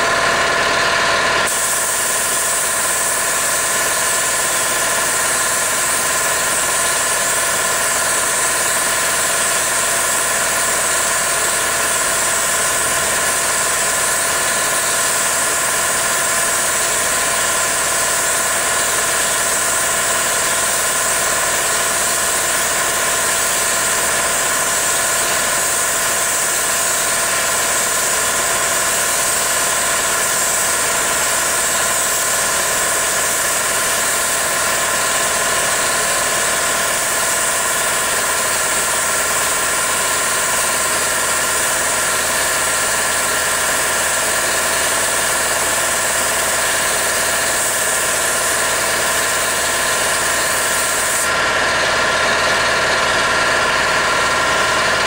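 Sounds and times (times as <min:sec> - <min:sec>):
machine whine with hiss: 0:00.0 - 0:55.0.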